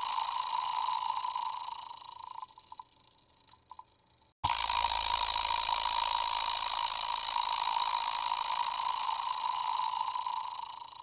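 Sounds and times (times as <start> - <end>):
bicycle chain rattling: 0.0 - 11.0.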